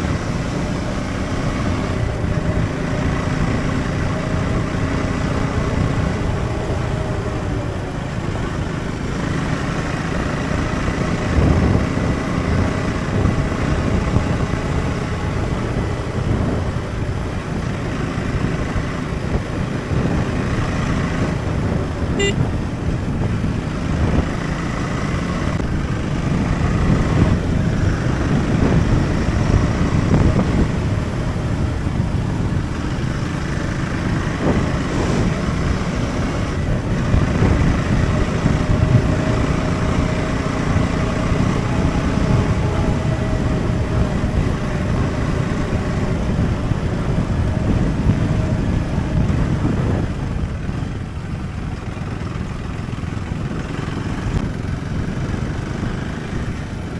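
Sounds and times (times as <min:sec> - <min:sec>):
motorcycle engine running: 0:00.0 - 0:56.9
road noise rumble: 0:00.0 - 0:56.9.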